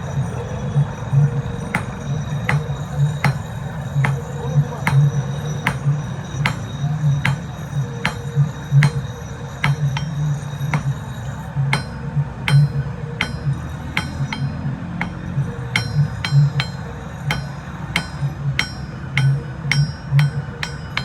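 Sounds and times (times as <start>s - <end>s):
low pulsing hum: 0.0s - 21.0s
hammer striking steel on anvil: 0.8s - 21.0s.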